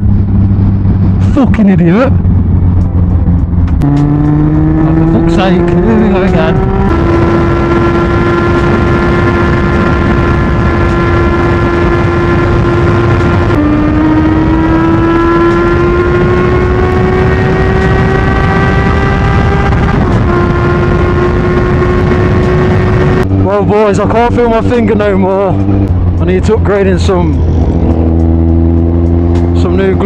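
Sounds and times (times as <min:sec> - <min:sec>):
heavy wind rush: 0:00.0 - 0:30.0
motorcycle engine: 0:00.0 - 0:30.0.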